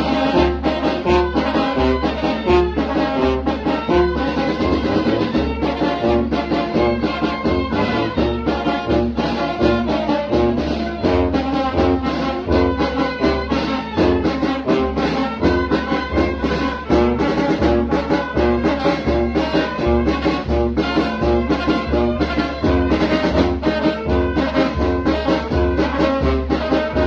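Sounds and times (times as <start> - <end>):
brass band playing: 0.0 - 27.0
drums: 0.0 - 27.0.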